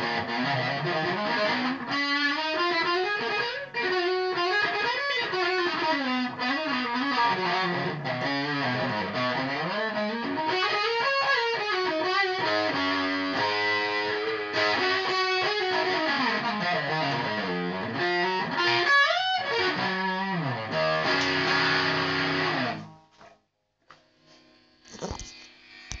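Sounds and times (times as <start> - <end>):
electric guitar lead line: 0.0 - 23.1.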